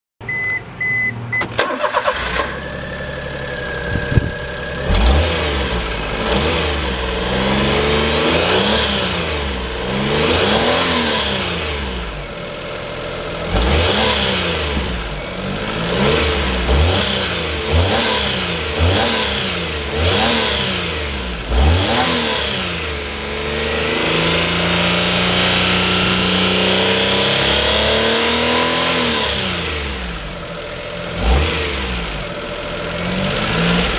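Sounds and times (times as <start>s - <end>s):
three-cylinder engine revving: 0.8s - 33.9s.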